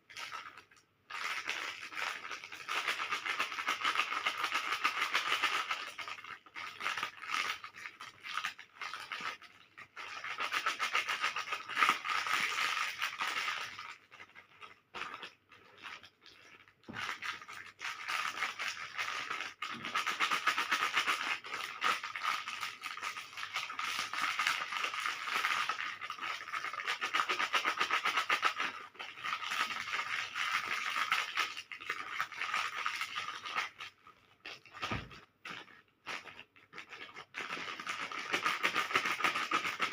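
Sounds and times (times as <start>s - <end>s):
plastic wrappers crinkling: 5.7s - 39.9s.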